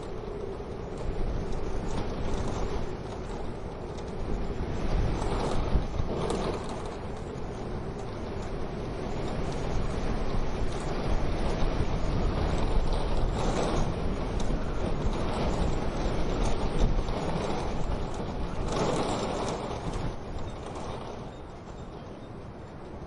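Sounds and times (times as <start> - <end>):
rushing wind: 0.0 - 23.0.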